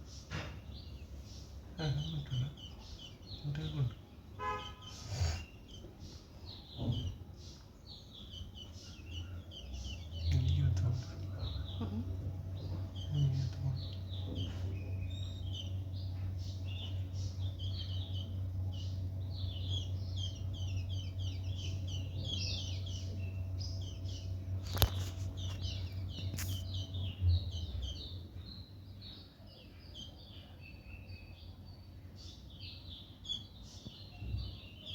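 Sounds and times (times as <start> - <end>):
small birds chirping: 0.0 - 34.9
steady low hum: 0.0 - 34.9.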